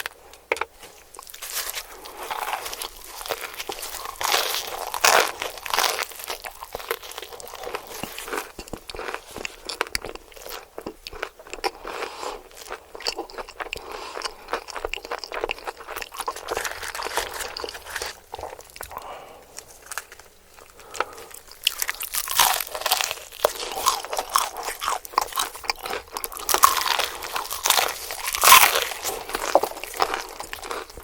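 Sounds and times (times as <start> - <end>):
chewing crispy fried chicken: 1.0 - 31.0.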